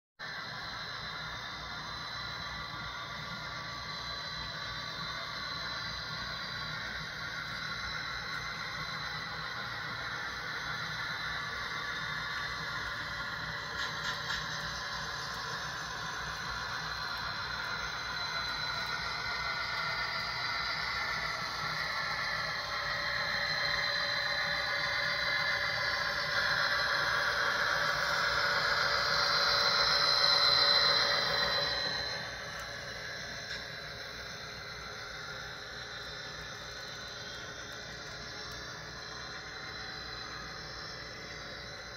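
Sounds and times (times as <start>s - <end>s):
model train whirring on rails: 0.2s - 41.9s.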